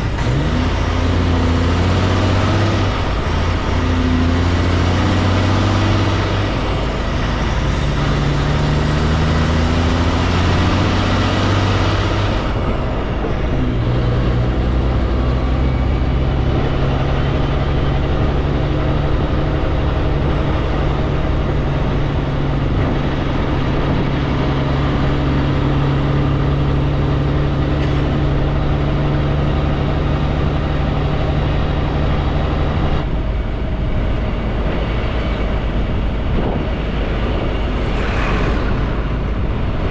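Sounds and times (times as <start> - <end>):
truck diesel engine pulling: 0.0 - 39.9.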